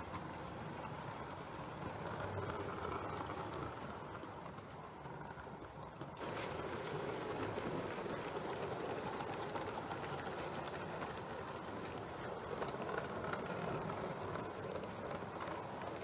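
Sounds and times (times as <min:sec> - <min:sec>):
model train wheels rolling on rail: 0:00.0 - 0:16.0.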